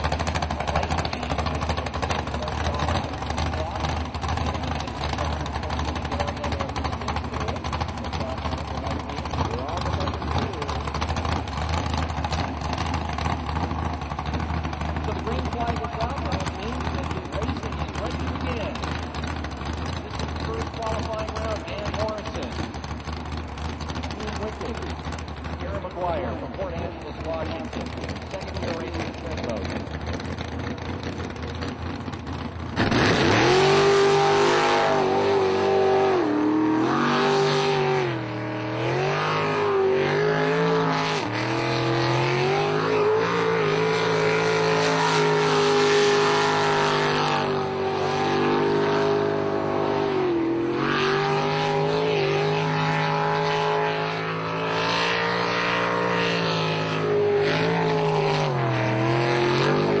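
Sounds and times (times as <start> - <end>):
jet boat engine revving: 0.0 - 60.0.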